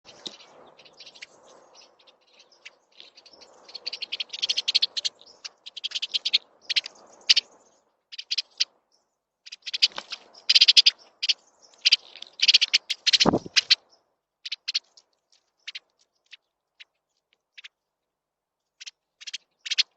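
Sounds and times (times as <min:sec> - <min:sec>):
small songbirds chirping: 0:00.0 - 0:19.9.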